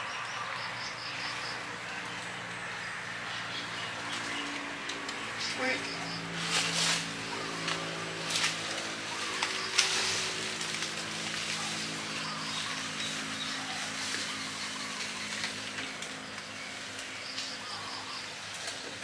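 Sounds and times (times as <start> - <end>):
motor humming: 1.0 - 19.0.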